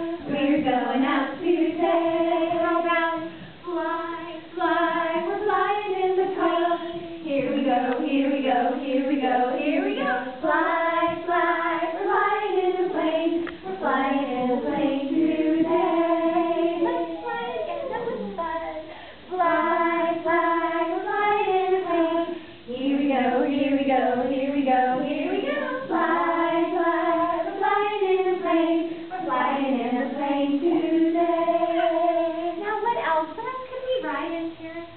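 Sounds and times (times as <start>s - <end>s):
person singing children's song: 0.0s - 34.9s.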